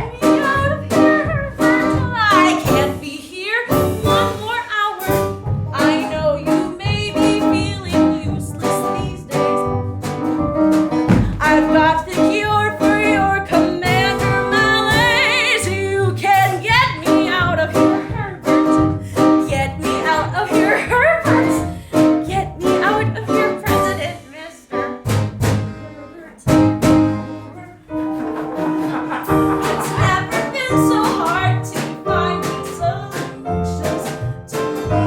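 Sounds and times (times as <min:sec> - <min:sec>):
guitar: 0:00.0 - 0:35.0
plucked bass: 0:00.0 - 0:35.0.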